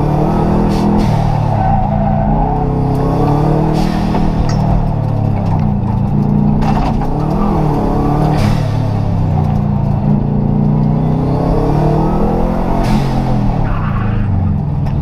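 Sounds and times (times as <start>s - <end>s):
rally car engine running hard: 0.0s - 15.0s.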